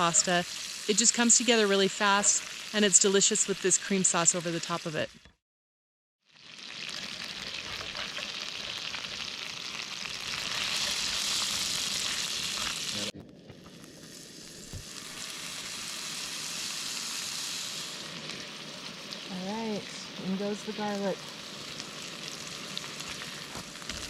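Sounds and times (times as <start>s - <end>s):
food sizzling in a frying pan: 0.0s - 5.2s, 6.2s - 24.0s.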